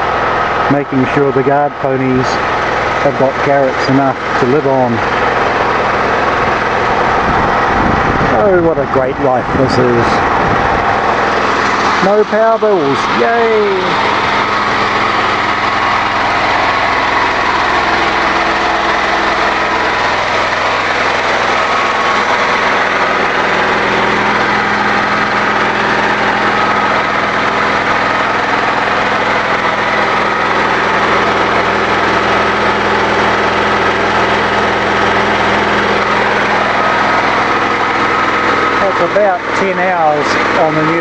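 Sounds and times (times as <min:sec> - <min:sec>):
engine generator running: 0:00.0 - 0:41.0.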